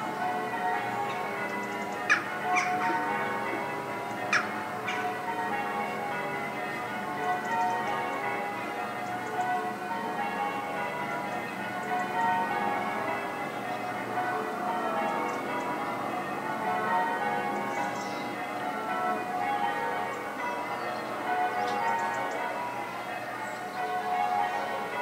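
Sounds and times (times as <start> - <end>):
church bells pealing: 0.0 - 25.0.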